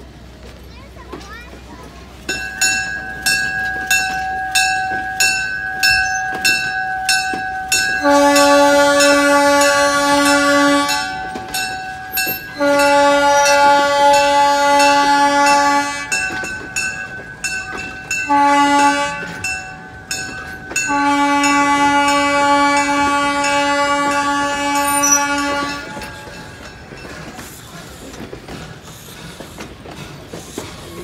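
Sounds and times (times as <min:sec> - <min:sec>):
steam locomotive chime whistle: 0:02.3 - 0:27.7.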